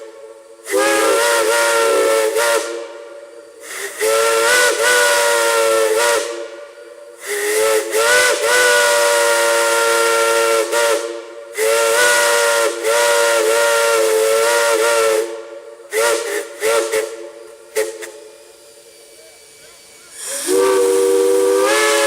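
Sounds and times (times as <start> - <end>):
steam whistle blasts: 0.0 - 18.5, 19.1 - 22.0
steam hissing: 0.0 - 22.0.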